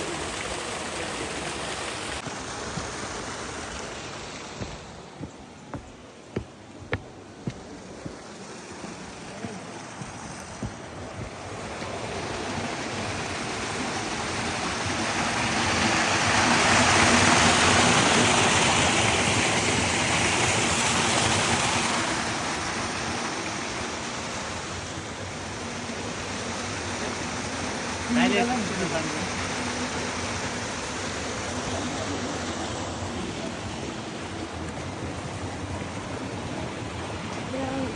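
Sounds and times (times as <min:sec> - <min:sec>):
rushing water: 0:00.0 - 0:37.9.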